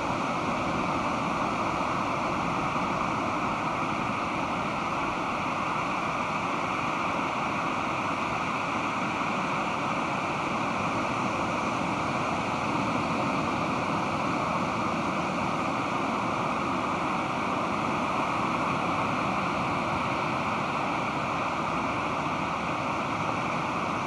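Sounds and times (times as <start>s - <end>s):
surf washing on beach: 0.0s - 24.0s.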